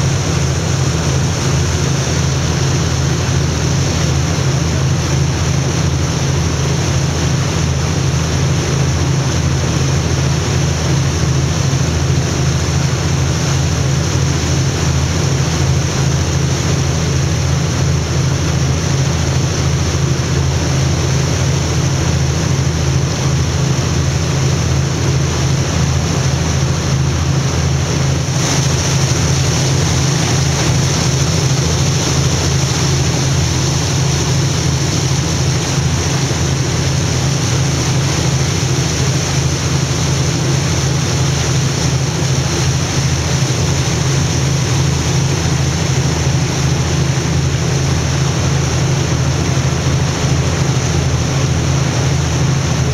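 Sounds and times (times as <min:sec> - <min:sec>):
boat engine drone: 0:00.0 - 0:52.9
water rushing past hull: 0:00.0 - 0:52.9.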